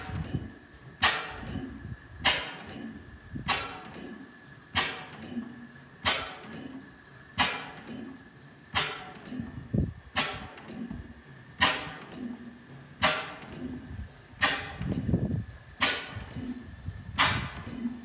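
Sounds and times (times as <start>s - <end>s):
soft mechanical knocks: 0.0s - 8.2s, 8.8s - 18.0s.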